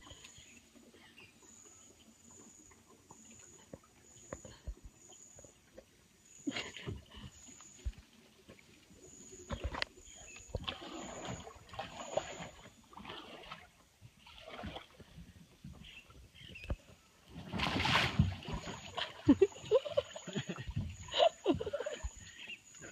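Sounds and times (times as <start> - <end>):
water splashing and sloshing: 0.0 - 22.9.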